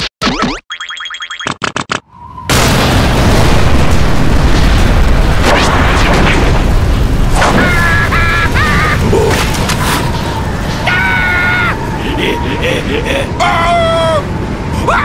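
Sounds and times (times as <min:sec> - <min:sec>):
cartoon blizzard wind: 0:02.0 - 0:15.0.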